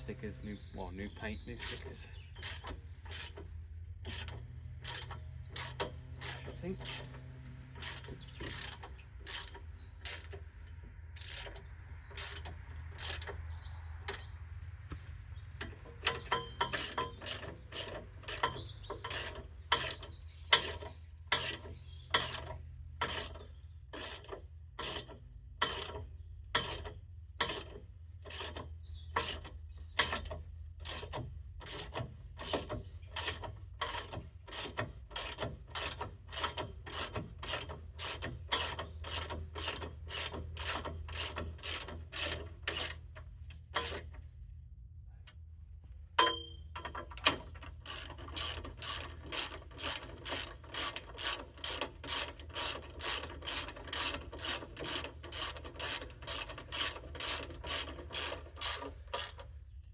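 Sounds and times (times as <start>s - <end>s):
hand ratchet clicking: 1.6s - 13.4s, 15.6s - 23.4s, 24.0s - 28.6s, 29.2s - 44.2s, 46.2s - 59.5s.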